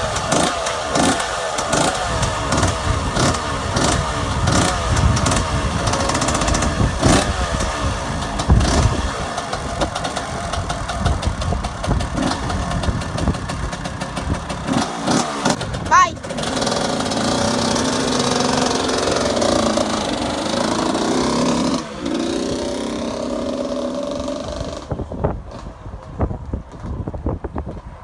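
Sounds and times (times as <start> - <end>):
two-stroke engine revving: 0.0 - 25.8.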